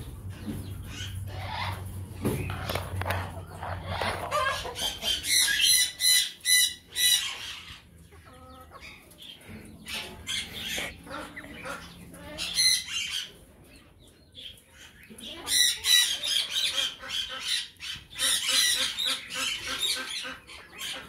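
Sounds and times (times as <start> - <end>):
chickens clucking: 0.0 - 21.0
chickens squawking: 0.0 - 21.0.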